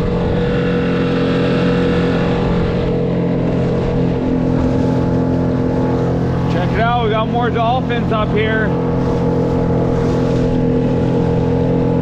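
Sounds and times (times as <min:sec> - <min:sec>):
outboard motor running: 0:00.0 - 0:12.0
water splashing along hull: 0:00.0 - 0:12.0.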